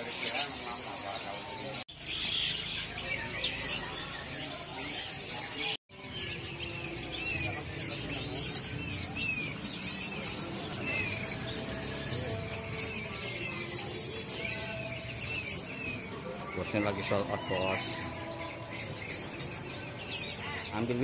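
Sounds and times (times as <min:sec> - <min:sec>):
songbirds chirping and whistling: 0:00.0 - 0:21.0.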